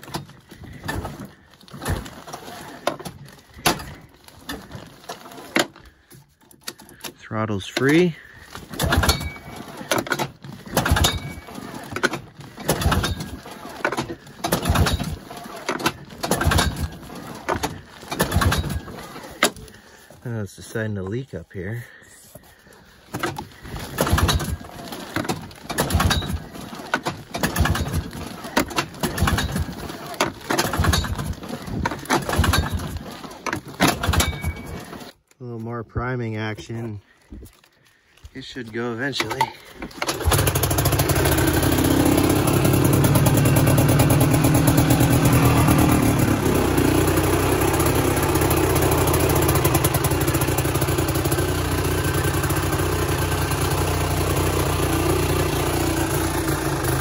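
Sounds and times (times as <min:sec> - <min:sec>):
recoil starter rope yanked: 0:00.0 - 0:20.4, 0:22.3 - 0:35.5, 0:36.4 - 0:57.0
engine turning over without firing: 0:00.0 - 0:35.4, 0:38.4 - 0:57.0.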